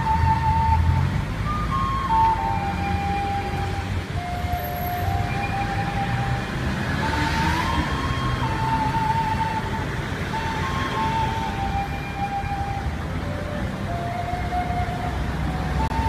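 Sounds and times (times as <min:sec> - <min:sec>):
road traffic rumble: 0:00.0 - 0:16.0
slow melody of held notes: 0:00.0 - 0:16.0
vehicle passing: 0:00.0 - 0:16.0.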